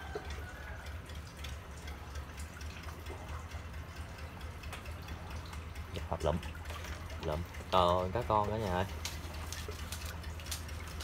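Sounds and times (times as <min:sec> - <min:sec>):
boat engine drone: 0:00.0 - 0:11.0
water splashes and drips: 0:00.0 - 0:11.0.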